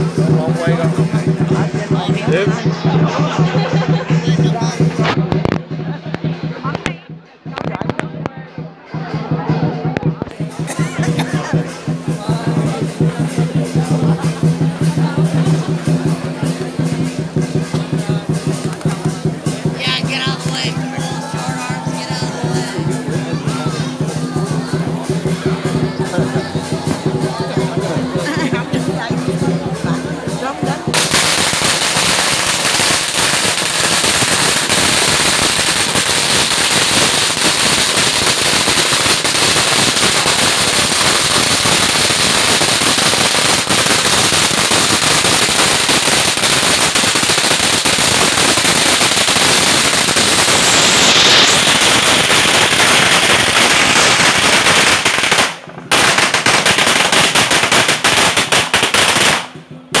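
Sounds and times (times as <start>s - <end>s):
firecrackers crackling: 0.0s - 60.0s.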